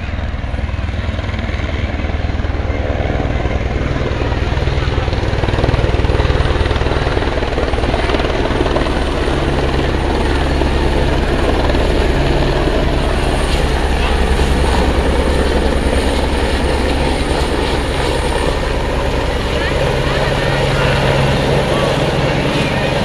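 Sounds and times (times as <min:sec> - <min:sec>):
helicopter engine running: 0:00.0 - 0:23.0
helicopter rotor beating: 0:00.0 - 0:23.0.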